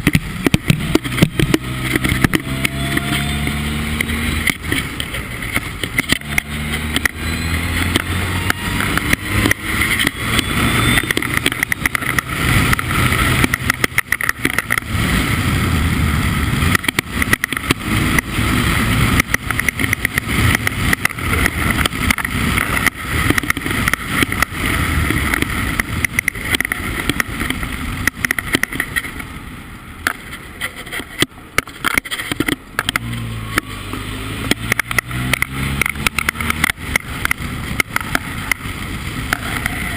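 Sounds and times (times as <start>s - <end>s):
race car engine accelerating: 0.4s - 26.2s, 32.8s - 39.9s.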